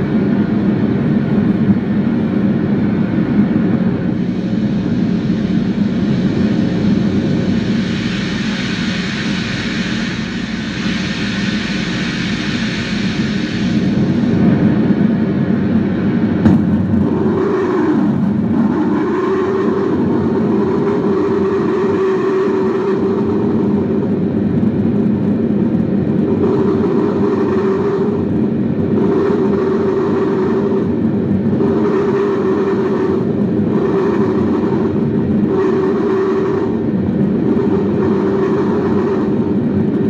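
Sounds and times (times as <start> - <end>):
synthetic storm noise: 1.1 - 40.0.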